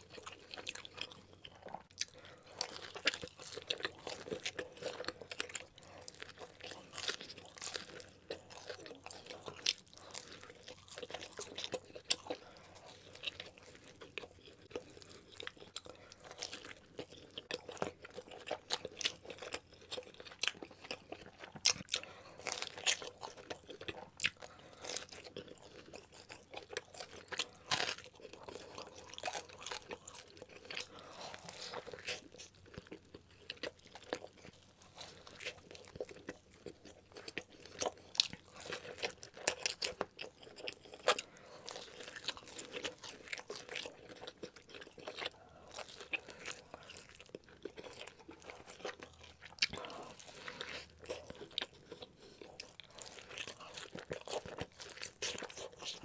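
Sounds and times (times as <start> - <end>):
biting into a burger: 0.0 - 56.0
chewing and crunching: 0.0 - 56.0.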